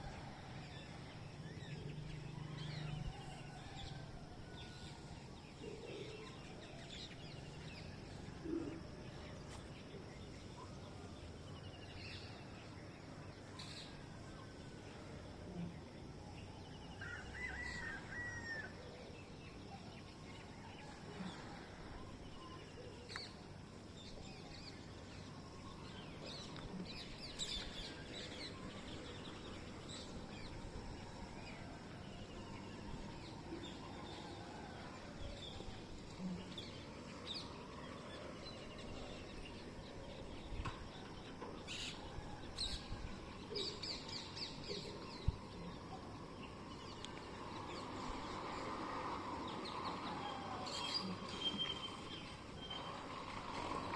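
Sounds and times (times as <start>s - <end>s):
faint background hiss: 0.0s - 53.9s.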